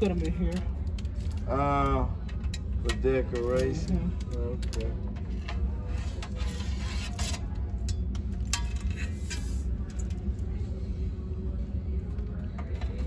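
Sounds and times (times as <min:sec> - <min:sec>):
low store hum: 0:00.0 - 0:13.0.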